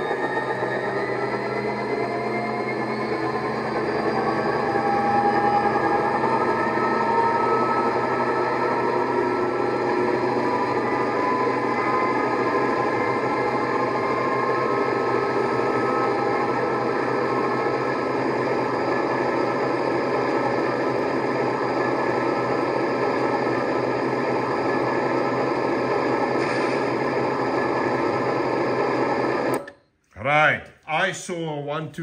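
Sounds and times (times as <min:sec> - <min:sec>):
model locomotive motor whirring: 0:00.0 - 0:29.6.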